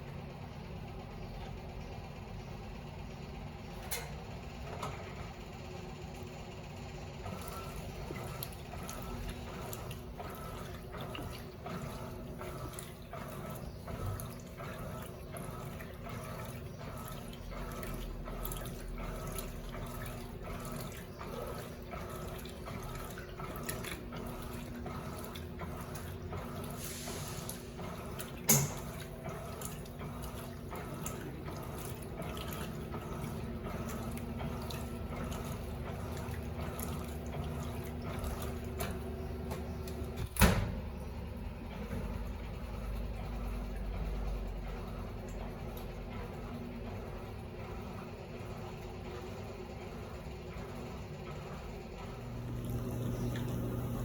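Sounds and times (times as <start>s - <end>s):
washing machine water sloshing: 0.0s - 54.0s.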